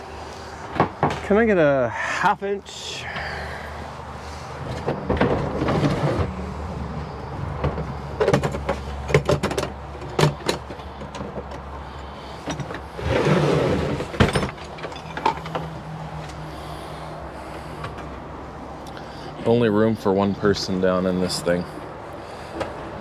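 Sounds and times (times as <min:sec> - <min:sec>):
highway traffic hum: 0:00.0 - 0:23.0.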